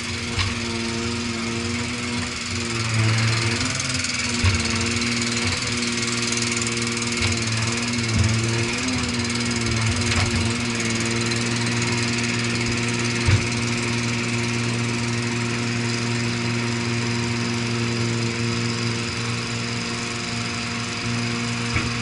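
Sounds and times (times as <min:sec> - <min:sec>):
digger engine running: 0:00.0 - 0:22.0.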